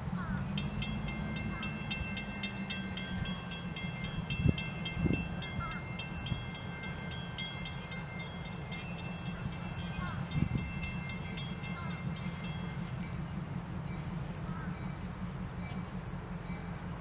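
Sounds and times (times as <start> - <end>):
diesel locomotives rumbling: 0.0 - 17.0
crossing bell ringing rapidly: 0.4 - 17.0.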